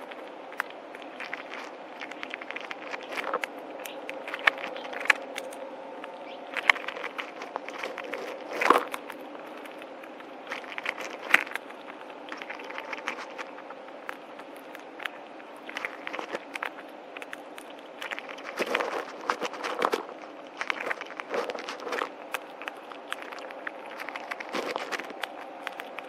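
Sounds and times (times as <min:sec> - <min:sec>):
faint background hum: 0:00.0 - 0:26.0
squirrel cracking and chewing seeds: 0:00.0 - 0:26.0.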